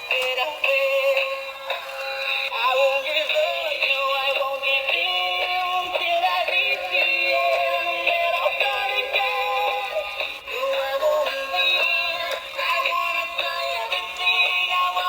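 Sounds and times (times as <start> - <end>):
toy playing electronic song: 0.0 - 15.0
synthetic singing voice: 2.5 - 15.0.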